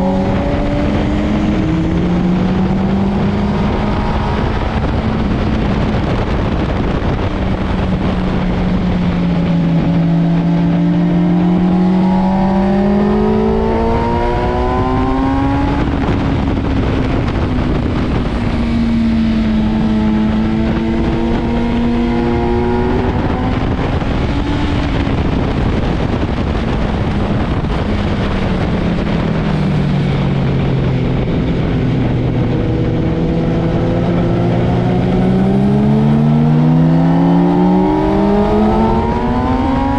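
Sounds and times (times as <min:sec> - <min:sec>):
motorcycle engine accelerating: 0:00.0 - 0:39.9
steady rush of noise: 0:00.0 - 0:39.9.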